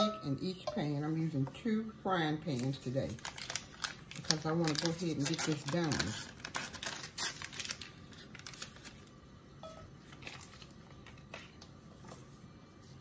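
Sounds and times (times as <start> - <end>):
low steady background hiss: 0.0 - 13.0.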